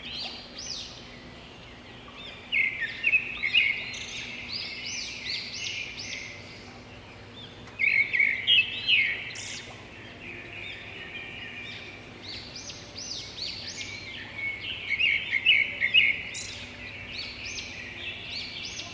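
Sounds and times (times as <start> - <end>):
small birds chirping chorus: 0.0 - 18.9.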